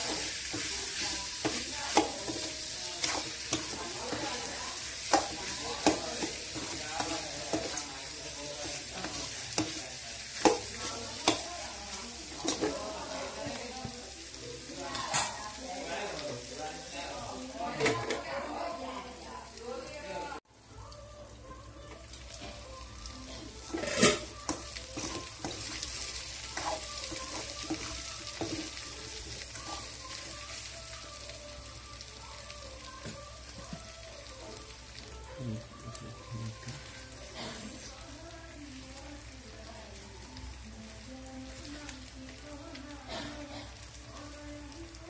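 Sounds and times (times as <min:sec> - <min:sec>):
curry sizzling in pot: 0:00.0 - 0:45.0
soft background music: 0:00.0 - 0:45.0.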